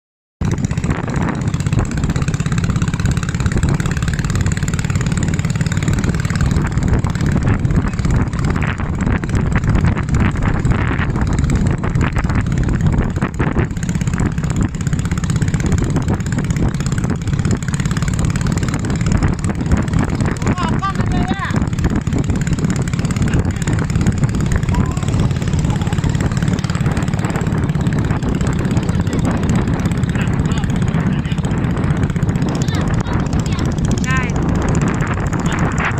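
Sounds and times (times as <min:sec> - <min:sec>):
boat engine running: 0:00.4 - 0:35.9
water noise: 0:00.4 - 0:35.9
wind: 0:00.4 - 0:35.9.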